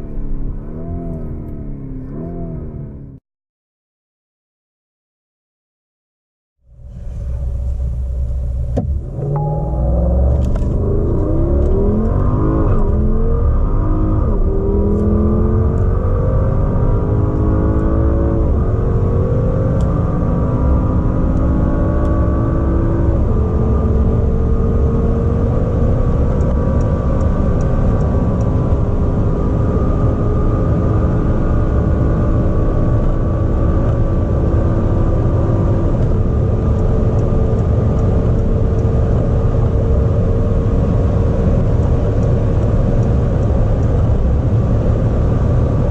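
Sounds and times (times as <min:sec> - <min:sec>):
car engine accelerating: 0:00.0 - 0:03.2, 0:06.6 - 0:45.9.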